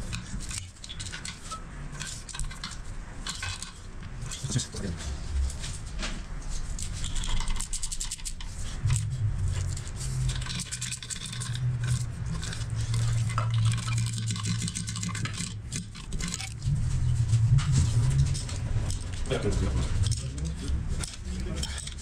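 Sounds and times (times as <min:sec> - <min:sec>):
metal clinks and scrapes of tools: 0:00.0 - 0:05.9, 0:06.5 - 0:22.0
steady low hum: 0:01.4 - 0:22.0.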